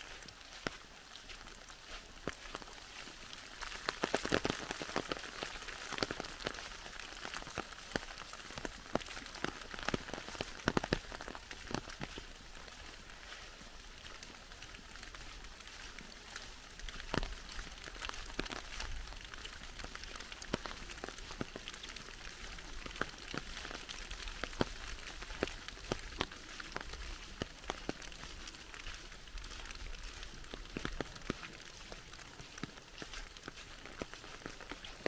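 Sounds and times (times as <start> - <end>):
rain hissing in forest: 0.0 - 35.0.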